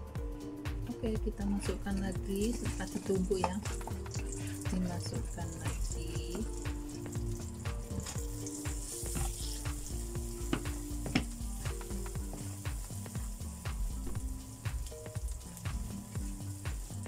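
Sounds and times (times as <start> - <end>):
chili paste sizzling in oil: 1.7 - 17.0.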